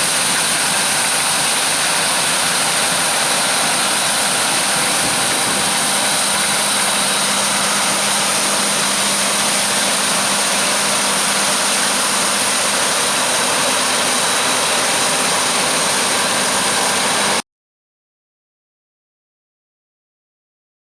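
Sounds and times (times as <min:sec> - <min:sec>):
harvest machinery engine drone: 0:00.0 - 0:17.4
strong high hiss: 0:00.0 - 0:17.4.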